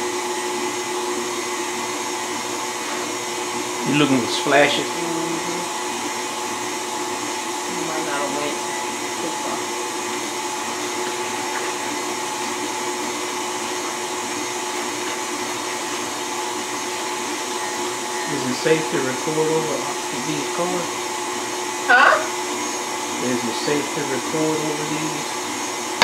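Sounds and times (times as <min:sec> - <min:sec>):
stand mixer motor hum and whine: 0:00.0 - 0:26.0.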